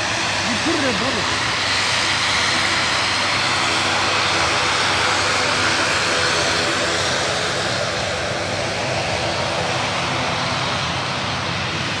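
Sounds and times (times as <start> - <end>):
turboprop airliner engine drone: 0.0 - 12.0.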